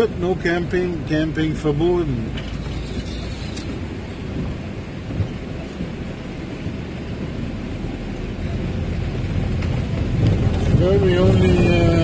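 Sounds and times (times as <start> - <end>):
tyres on wet road: 0.0 - 12.0
vehicle engine rumble: 0.0 - 12.0
rain on windscreen: 1.3 - 12.0
windscreen wiper sweeping: 1.4 - 12.0.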